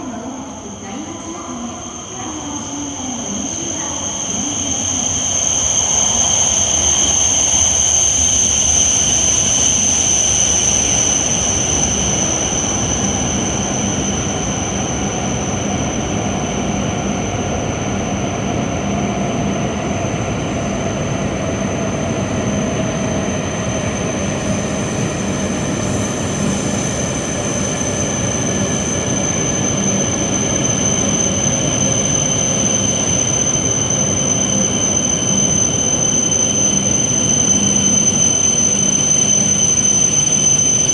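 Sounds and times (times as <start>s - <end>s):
high-pitched train whine: 0.0s - 40.9s.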